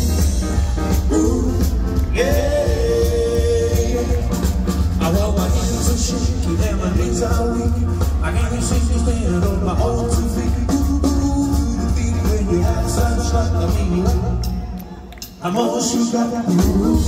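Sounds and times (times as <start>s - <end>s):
drum beat: 0.0s - 14.5s
bass line: 0.0s - 14.7s
rock and roll band playing: 0.0s - 17.0s.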